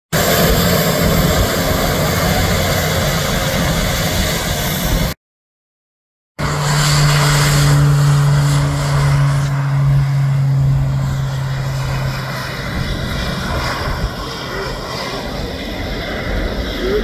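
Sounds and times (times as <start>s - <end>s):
propeller airplane flying past: 0.2s - 5.2s, 6.4s - 17.0s.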